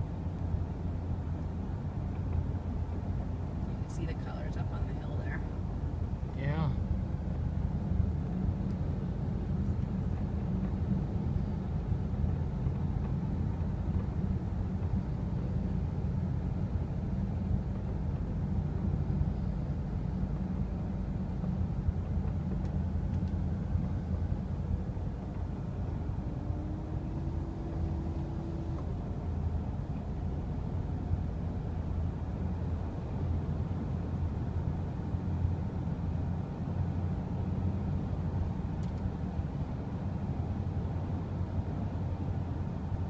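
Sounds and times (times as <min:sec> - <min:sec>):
car tyre and engine rumble: 0:00.0 - 0:43.0.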